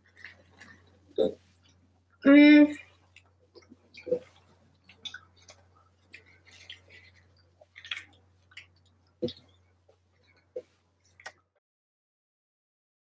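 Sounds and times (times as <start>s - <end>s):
chewing: 0.0s - 2.1s, 2.9s - 11.5s.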